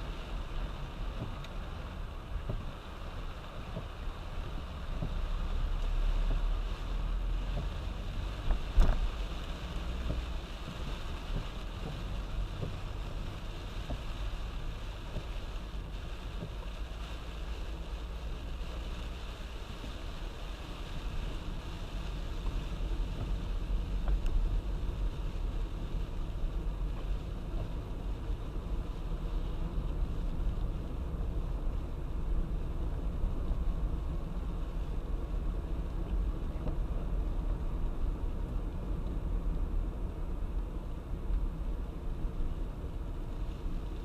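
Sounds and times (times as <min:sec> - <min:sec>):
hiss of rain and spray: 0:00.0 - 0:44.0
road and tyre rumble: 0:00.0 - 0:44.0.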